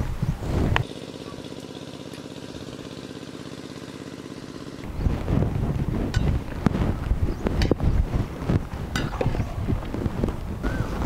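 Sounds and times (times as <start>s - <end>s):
engine running with rapid throb: 0.0s - 11.0s.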